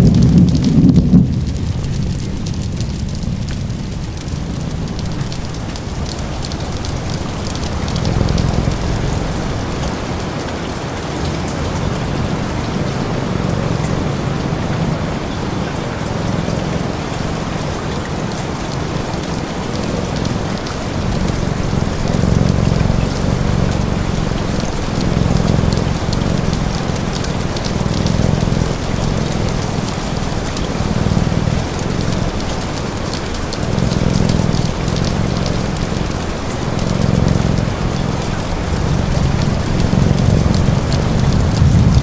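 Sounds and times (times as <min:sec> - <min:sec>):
cat purring: 0:00.0 - 0:42.0
faint fire crackles: 0:00.0 - 0:42.0
rain hiss: 0:00.0 - 0:42.0.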